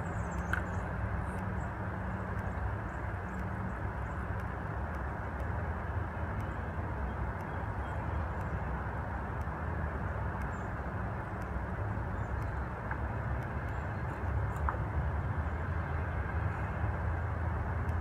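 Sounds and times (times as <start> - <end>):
faint ticks: 0.0 - 18.0.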